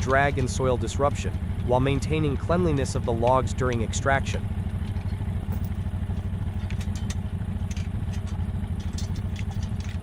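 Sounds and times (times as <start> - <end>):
light clicks and rattles: 0.0 - 4.0, 4.6 - 10.0
atv engine running: 0.0 - 10.0.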